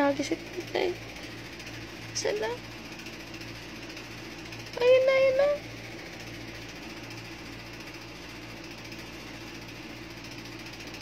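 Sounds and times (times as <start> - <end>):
small motor humming and rattling: 0.0 - 11.0.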